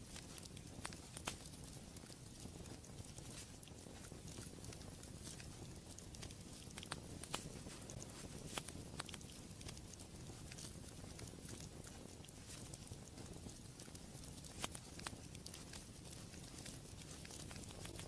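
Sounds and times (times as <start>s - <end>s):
fire rumble and hiss: 0.0s - 18.0s
wood fire crackling and popping: 0.0s - 18.0s.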